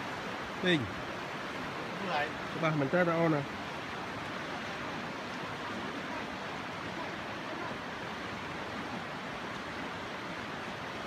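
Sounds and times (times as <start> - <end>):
river rushing over boulders: 0.0 - 11.0.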